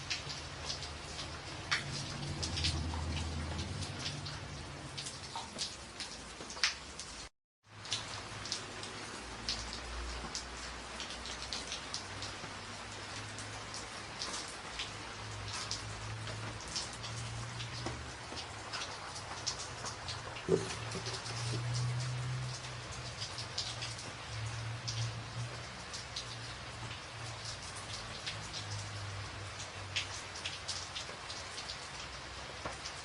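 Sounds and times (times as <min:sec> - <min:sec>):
rain on a tin roof: 0:00.0 - 0:33.0.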